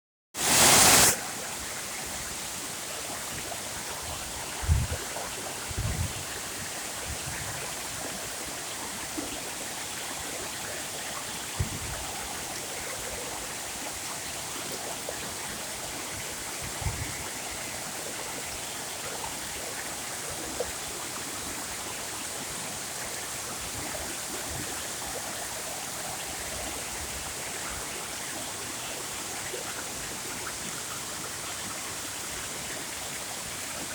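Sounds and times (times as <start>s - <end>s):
waterfall rushing: 0.4s - 32.2s.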